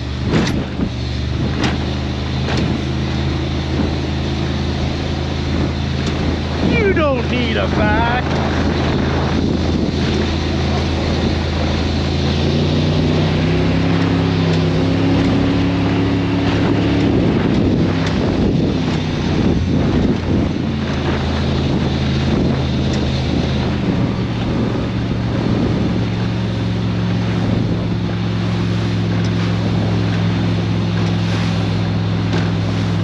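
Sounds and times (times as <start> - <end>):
boat engine droning: 0.0 - 33.0
water rushing past hull: 0.0 - 33.0
wind buffeting microphone: 0.0 - 33.0.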